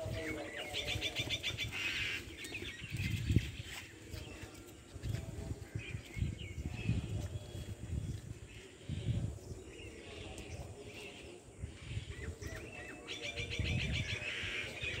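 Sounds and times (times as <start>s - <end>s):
birds chirping: 0.0s - 15.0s
low microphone rumble: 0.0s - 15.0s.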